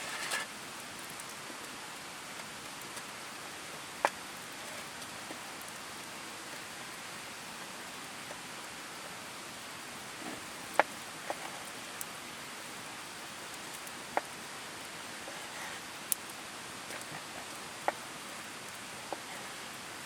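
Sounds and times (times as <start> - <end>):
campfire crackling and popping: 0.0 - 20.0
fire hiss: 0.0 - 20.0.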